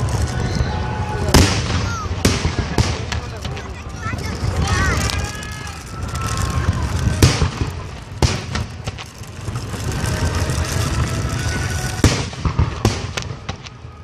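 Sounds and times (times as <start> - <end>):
fireworks bursting: 0.0 - 14.0
low rumble: 0.0 - 14.0.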